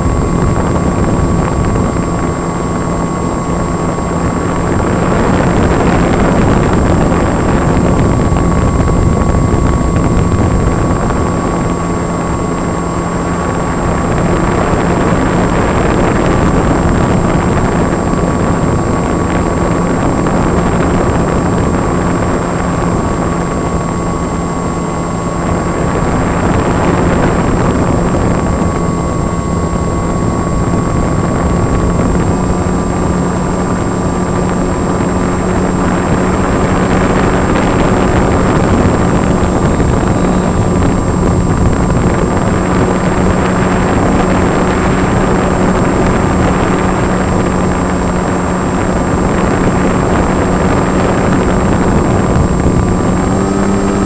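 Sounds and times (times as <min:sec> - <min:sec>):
electric motor whining: 0:00.0 - 0:54.0
rushing air noise: 0:00.0 - 0:54.0.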